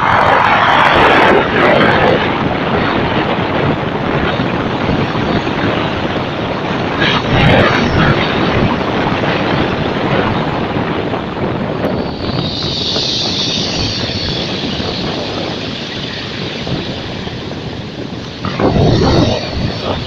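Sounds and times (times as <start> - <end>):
sea rumble: 0.0 - 20.0.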